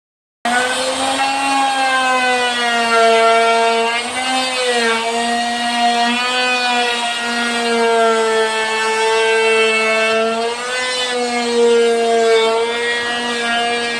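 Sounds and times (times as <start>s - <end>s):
wood router motor whine: 0.5s - 13.9s.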